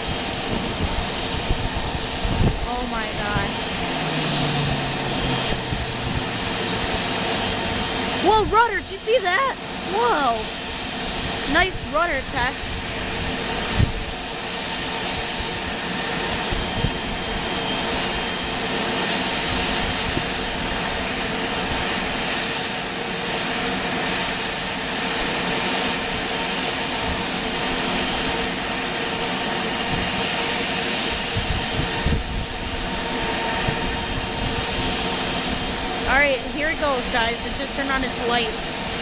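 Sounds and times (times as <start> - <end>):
high-pitched engine whine: 0.0 - 39.0
jet engines roaring: 0.0 - 39.0.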